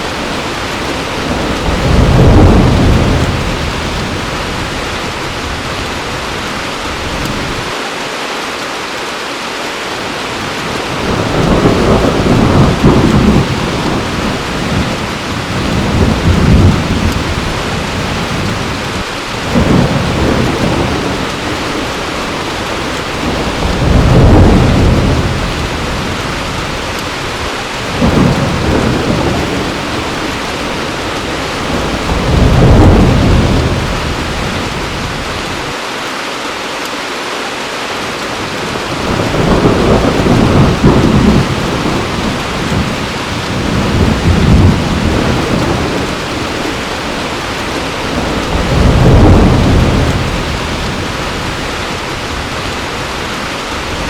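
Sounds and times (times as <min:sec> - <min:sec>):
thunder rumbling: 0:00.0 - 0:07.8, 0:10.4 - 0:35.8, 0:38.4 - 0:54.0
heavy rain: 0:00.0 - 0:54.0.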